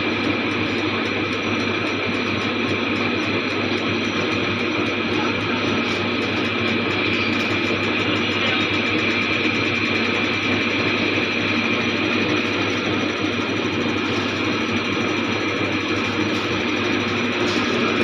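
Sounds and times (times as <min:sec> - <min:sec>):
diesel engine idling: 0:00.1 - 0:18.0.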